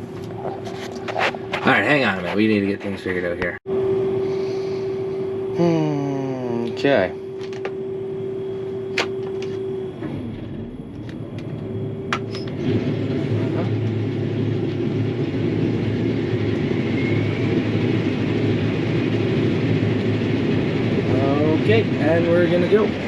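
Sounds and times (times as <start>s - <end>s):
combine harvester humming: 0.0s - 23.0s.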